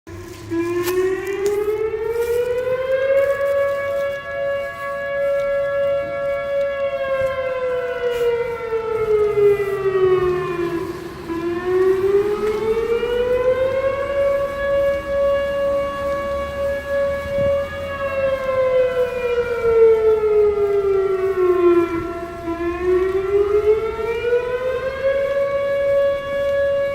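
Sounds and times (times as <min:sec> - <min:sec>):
sirens wailing: 0:00.1 - 0:26.9.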